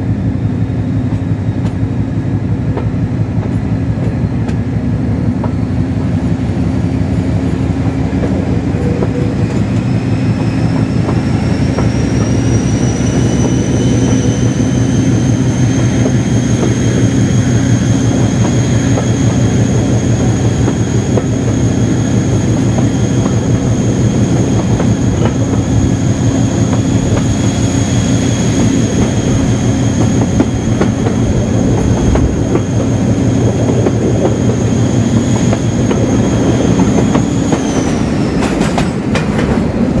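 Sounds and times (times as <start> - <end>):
diesel locomotive engine throbbing: 0.0 - 40.0
high-pitched engine whine: 5.0 - 40.0.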